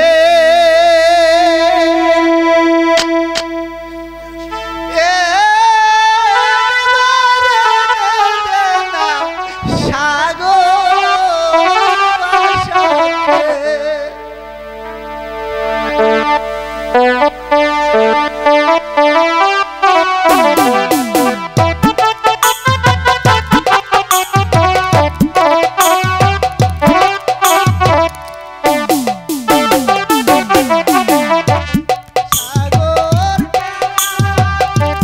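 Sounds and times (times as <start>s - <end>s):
electronic keyboard melody: 1.0s - 9.7s, 10.9s - 35.0s.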